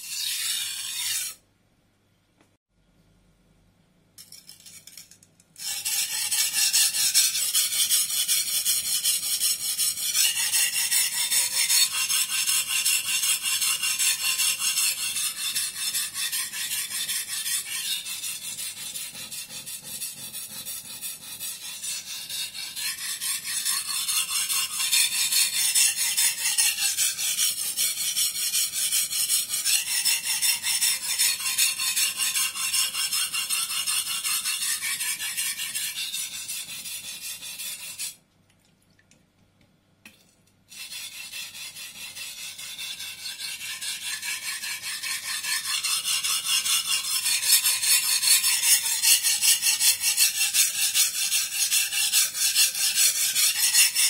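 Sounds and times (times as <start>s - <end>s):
knife scraping on whetstone: 0.0s - 1.4s, 4.2s - 38.2s, 40.7s - 54.0s.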